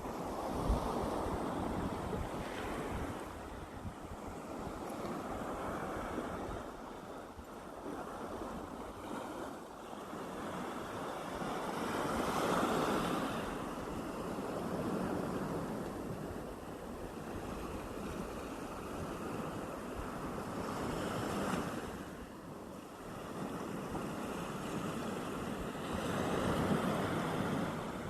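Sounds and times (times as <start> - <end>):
sea waves washing onto beach: 0.0 - 28.0
wind rumble on microphone: 0.0 - 28.0.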